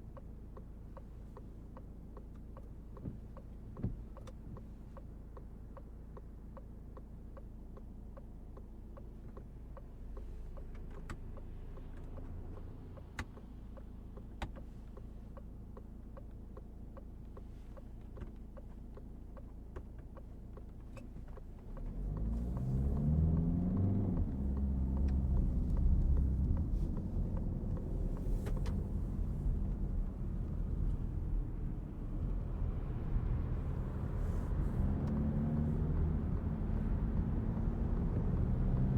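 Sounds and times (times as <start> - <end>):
diesel car engine: 0.0 - 38.9
faint engine ticks: 0.0 - 38.9.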